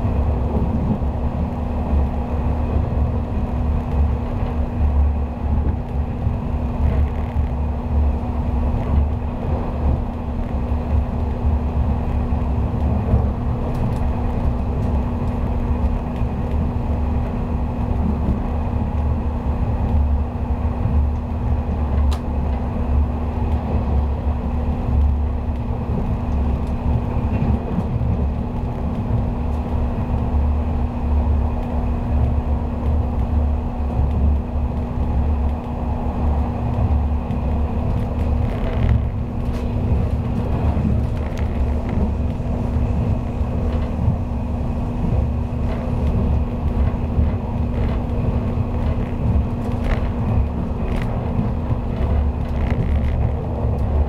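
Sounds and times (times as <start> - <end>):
constant train hum: 0.0 - 54.0
train wheels rumbling on rail: 0.0 - 54.0.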